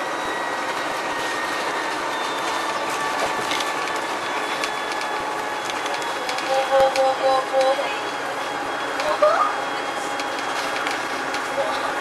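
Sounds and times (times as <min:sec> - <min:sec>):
bus engine running: 0:00.0 - 0:12.0
road noise: 0:00.0 - 0:12.0
whining tones: 0:00.0 - 0:12.0.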